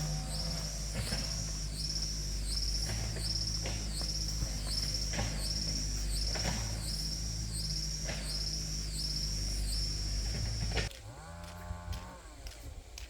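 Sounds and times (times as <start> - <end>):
insect chirping: 0.0 - 10.9
steady low hum: 0.0 - 10.9.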